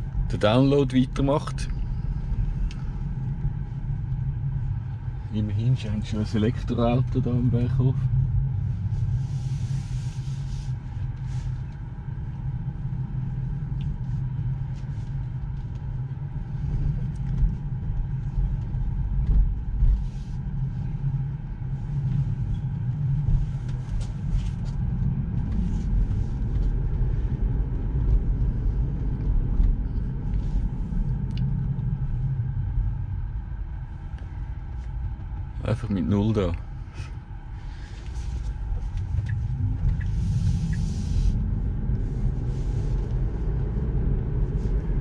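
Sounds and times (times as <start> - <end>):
road and tyre rumble in car: 0.0 - 45.0.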